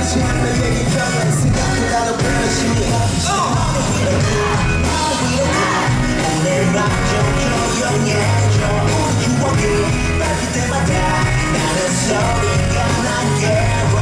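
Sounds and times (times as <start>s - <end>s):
live pop-rock band: 0.0s - 14.0s
person singing: 0.0s - 14.0s.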